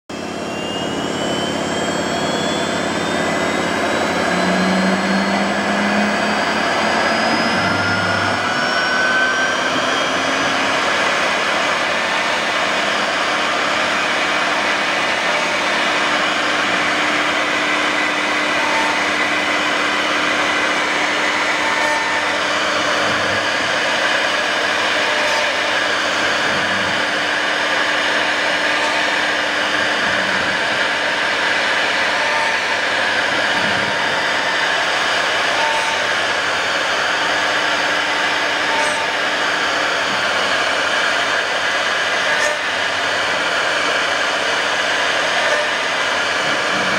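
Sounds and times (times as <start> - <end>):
router bit cutting plywood: 0.1 - 46.9
thin high whine: 0.1 - 46.9.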